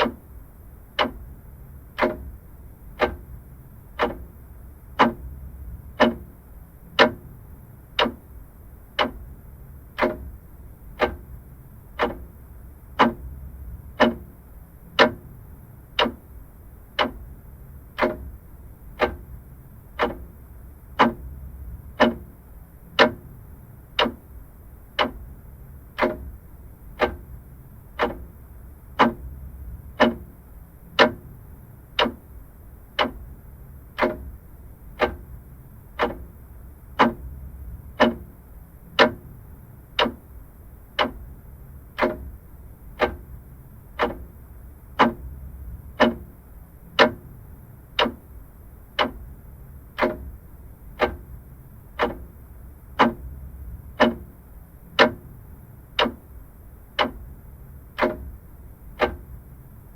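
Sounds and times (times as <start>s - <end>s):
faint low hum: 0.0s - 59.9s
mechanical clock ticking: 0.0s - 59.9s.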